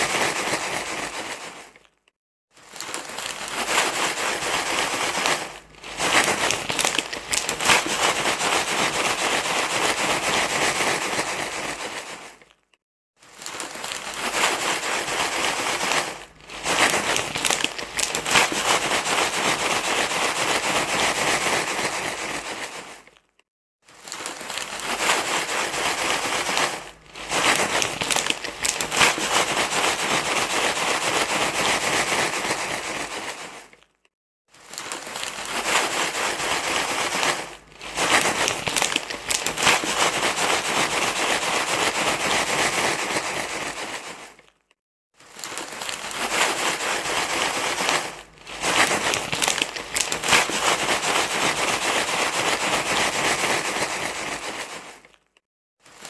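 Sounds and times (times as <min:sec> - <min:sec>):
crinkling rustle: 0:00.0 - 0:56.0.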